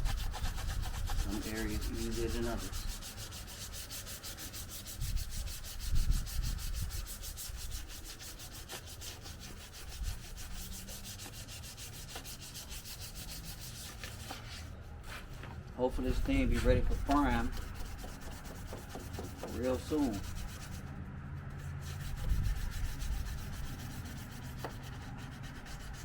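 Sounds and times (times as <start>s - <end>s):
sandpaper scratching on car panel: 0.0s - 14.7s, 15.9s - 26.0s.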